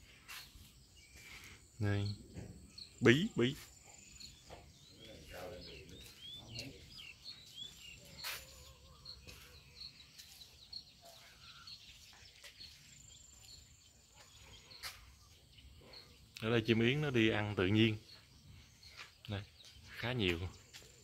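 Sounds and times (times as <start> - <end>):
insects: 0.0 - 21.0
small birds twittering: 0.0 - 21.0.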